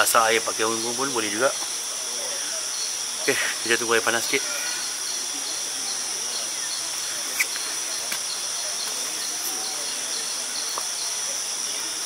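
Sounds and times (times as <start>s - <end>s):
crickets and insects chorus: 0.0s - 12.0s.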